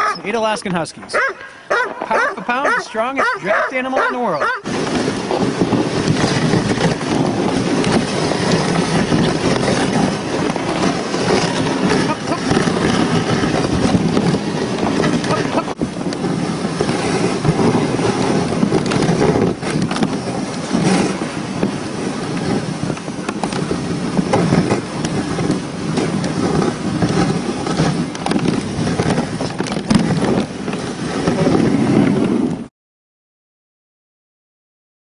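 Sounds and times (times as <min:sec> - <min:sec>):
sled runners scraping on snow: 0:00.0 - 0:32.7
wind buffeting microphone: 0:00.0 - 0:32.7.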